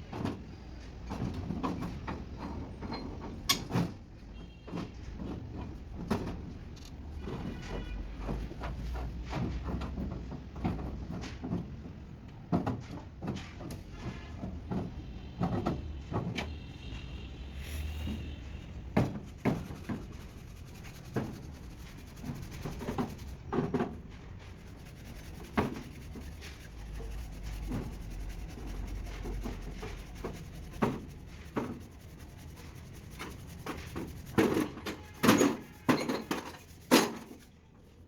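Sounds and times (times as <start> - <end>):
sharp knocks and rubbing: 1.0 - 38.0.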